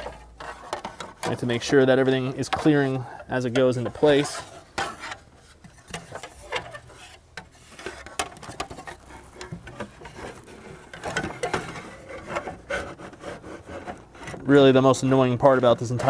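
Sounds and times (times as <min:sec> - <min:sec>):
plastic fan shroud scraping: 0:00.0 - 0:16.0.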